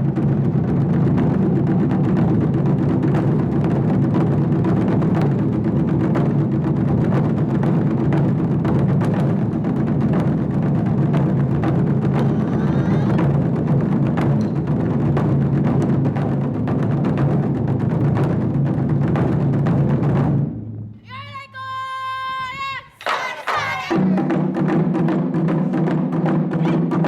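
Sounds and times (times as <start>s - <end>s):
drum ensemble playing: 0.0s - 27.0s.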